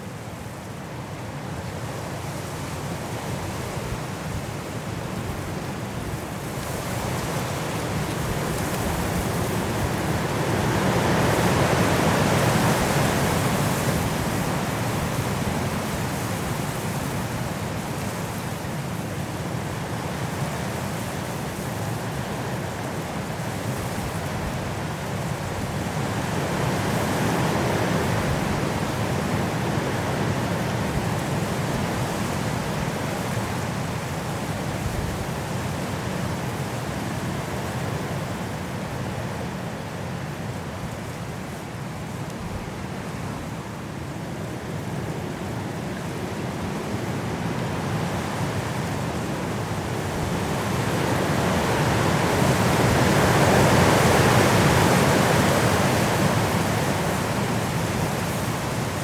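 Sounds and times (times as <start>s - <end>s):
strong wind through trees: 0.0s - 59.0s.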